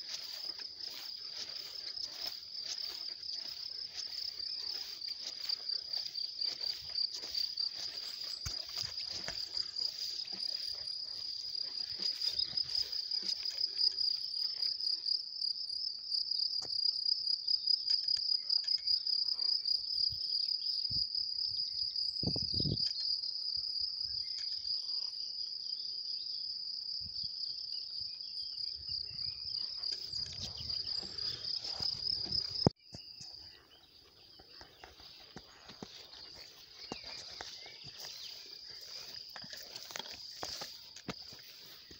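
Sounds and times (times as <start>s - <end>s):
crickets chirring: 0.0s - 41.9s.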